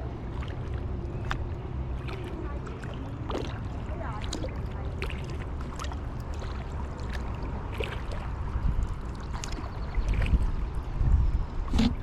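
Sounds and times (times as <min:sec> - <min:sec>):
paddle splashing in water: 0:00.0 - 0:10.6, 0:11.6 - 0:12.0
wind rumble on microphone: 0:00.0 - 0:12.0
water dripping off paddle: 0:00.3 - 0:10.4.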